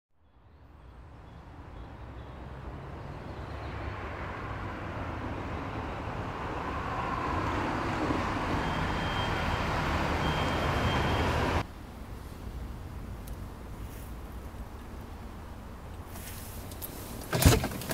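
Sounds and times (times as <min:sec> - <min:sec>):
car engine approaching: 0:00.8 - 0:17.3.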